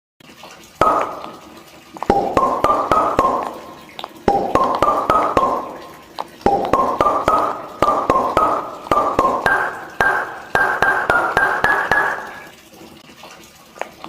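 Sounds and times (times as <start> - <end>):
clicky beat: 0.8 - 12.5
repeating plucked melody: 0.8 - 12.5.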